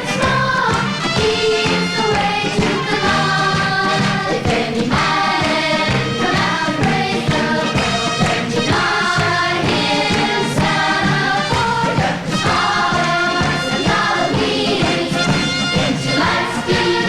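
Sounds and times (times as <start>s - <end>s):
band accompaniment: 0.0s - 17.0s
children's choir singing: 0.0s - 17.0s.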